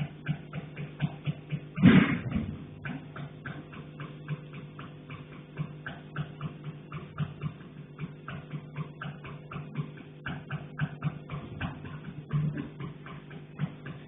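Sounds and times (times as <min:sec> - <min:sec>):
steady low hum: 0:00.0 - 0:14.0
tapping on a pipe: 0:00.0 - 0:14.0.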